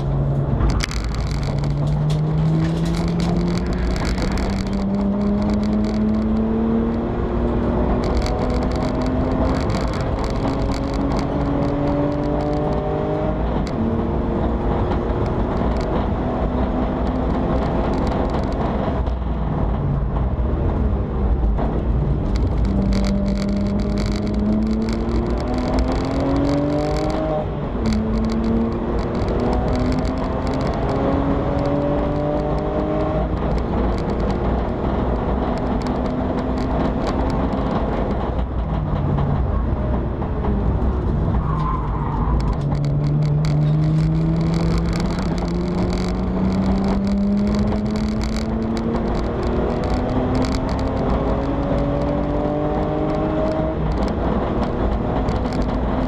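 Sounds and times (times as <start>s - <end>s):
race car engine revving: 0.0s - 19.0s, 22.1s - 38.4s, 40.7s - 56.0s.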